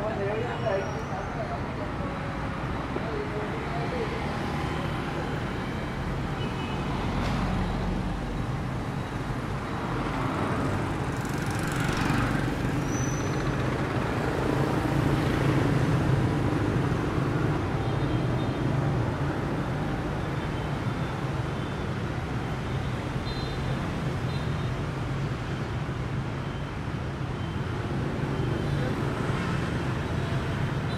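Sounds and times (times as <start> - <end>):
motorbikes and cars passing: 0.0 - 30.9.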